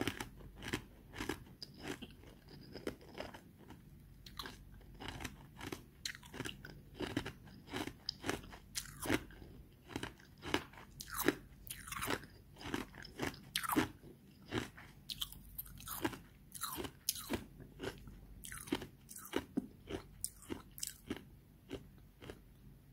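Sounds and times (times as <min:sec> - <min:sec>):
person chewing ice crunchily: 0:00.0 - 0:22.5.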